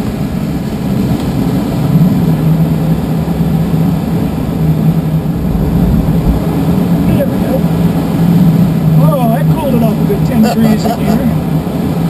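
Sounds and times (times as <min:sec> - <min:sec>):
light aircraft cockpit drone: 0:00.0 - 0:12.0.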